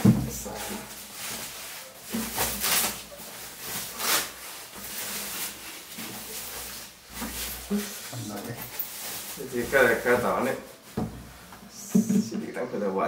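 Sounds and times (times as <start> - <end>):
plastic bag rustling: 0.0 - 11.4.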